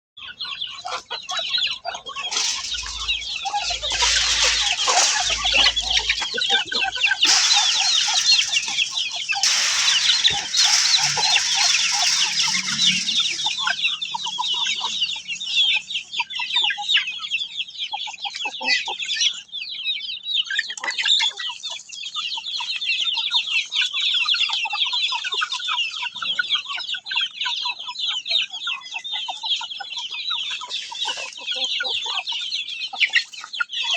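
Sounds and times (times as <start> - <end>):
chickens chirping and clucking: 0.2 - 33.9.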